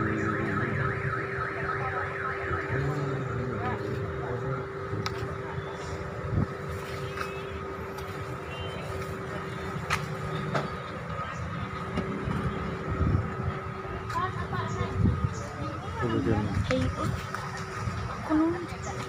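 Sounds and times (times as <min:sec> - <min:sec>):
motor hum with low rumble: 0:00.0 - 0:19.0.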